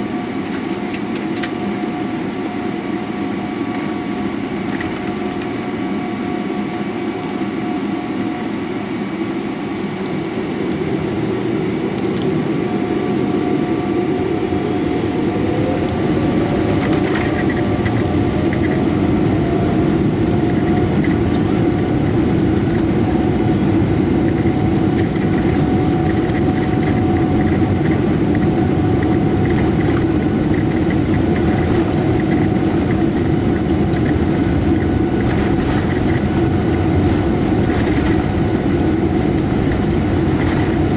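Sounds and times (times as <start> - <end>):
jet engines spooling up: 0.0 - 40.9
rolling rumble of jet takeoff: 0.0 - 40.9.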